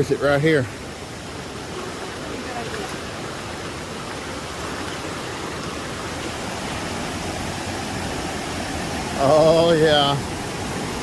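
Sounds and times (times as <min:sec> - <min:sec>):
river flowing over rocks: 0:00.0 - 0:11.0
waterfall: 0:00.0 - 0:11.0.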